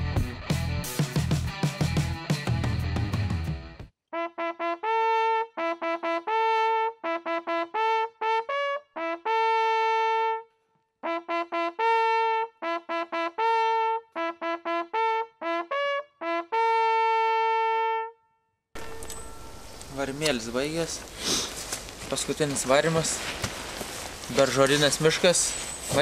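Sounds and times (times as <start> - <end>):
brass hunting horn: 4.1 - 26.0.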